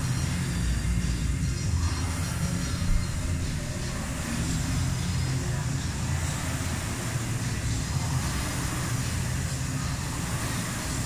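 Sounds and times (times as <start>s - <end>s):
rowing machine flywheel whirring: 0.0s - 11.0s.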